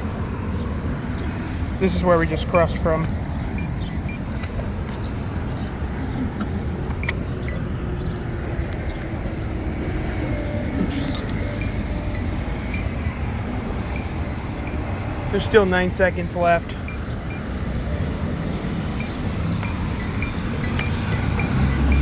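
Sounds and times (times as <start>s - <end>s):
rumble of passing cars: 0.0s - 22.0s.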